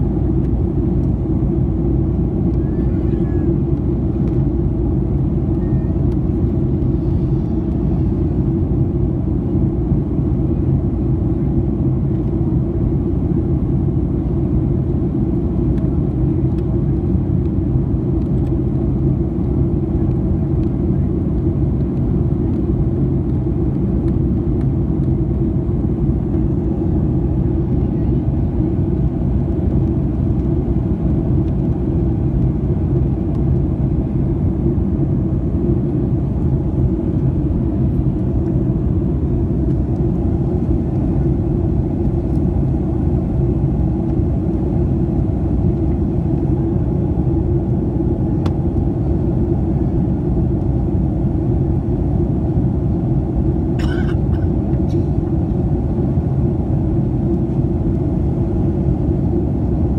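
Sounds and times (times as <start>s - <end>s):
airliner engine rumble: 0.0s - 59.9s.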